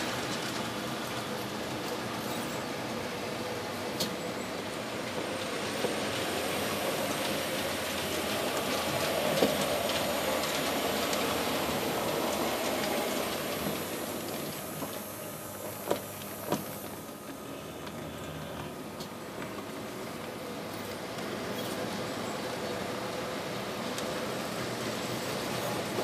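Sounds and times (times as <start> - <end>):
model train rolling on track: 0.0 - 26.0.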